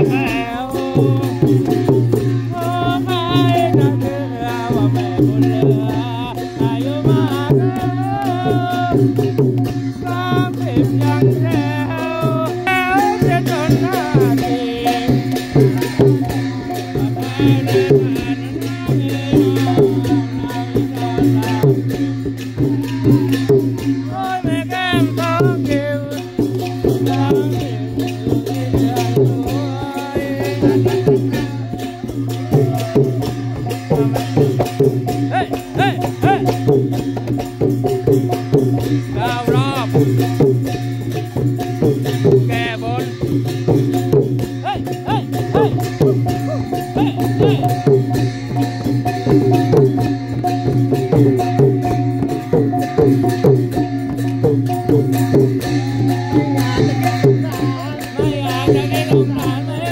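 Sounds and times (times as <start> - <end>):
hand-struck long drums: 0.0 - 59.9
small clashing cymbals: 0.0 - 59.9.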